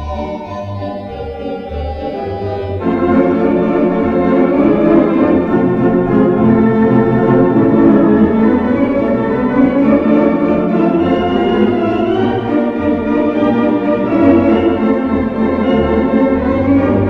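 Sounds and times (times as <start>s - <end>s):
organ playing chords: 0.0s - 17.0s.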